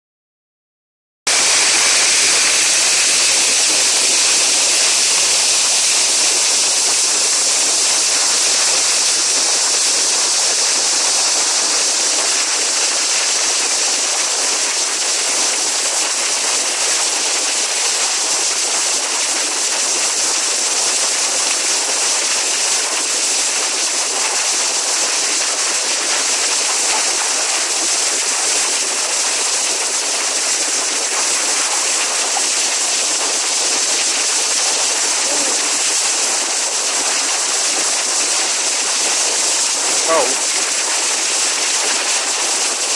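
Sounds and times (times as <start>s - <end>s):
waterfall crashing onto rocks: 1.3s - 42.9s.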